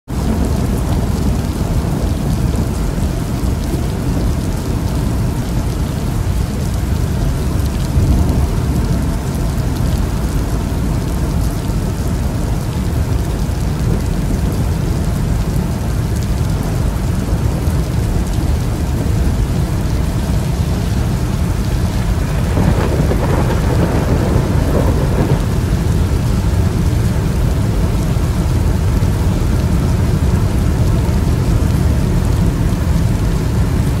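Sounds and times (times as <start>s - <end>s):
rain on car windshield and roof: 0.1s - 34.0s.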